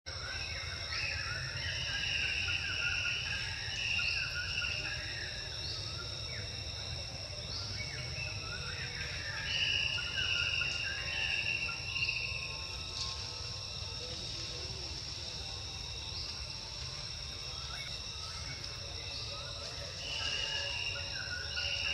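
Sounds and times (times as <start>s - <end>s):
insects trilling: 0.1s - 21.9s.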